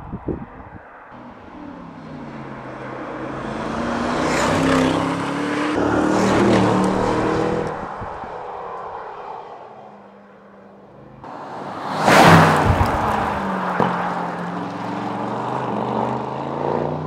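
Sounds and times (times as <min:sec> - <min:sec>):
car engine accelerating past: 0:01.2 - 0:10.1, 0:11.5 - 0:17.0.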